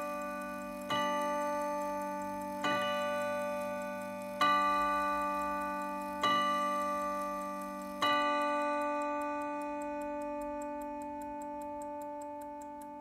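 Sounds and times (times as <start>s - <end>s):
clock chime strikes: 0.0s - 13.0s
clock ticking: 0.0s - 13.0s.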